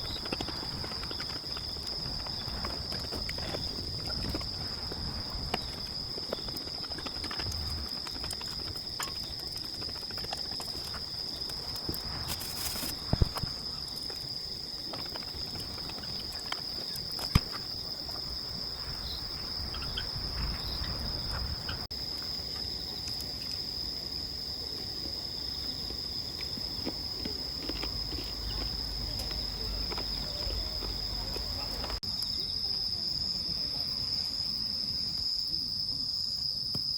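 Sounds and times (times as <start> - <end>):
crickets trilling: 0.0 - 36.9.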